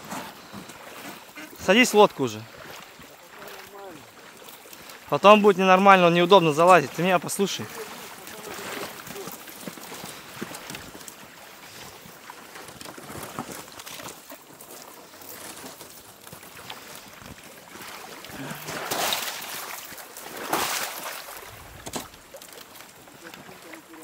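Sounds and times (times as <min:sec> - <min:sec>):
wader's footsteps in water: 0:00.0 - 0:24.0
water sloshing against boat hull: 0:00.0 - 0:24.0.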